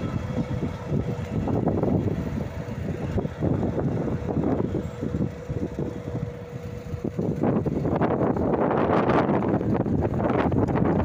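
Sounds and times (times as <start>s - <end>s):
locomotive engine and wheels rumbling: 0.0s - 11.0s
wind buffeting microphone: 0.0s - 11.0s.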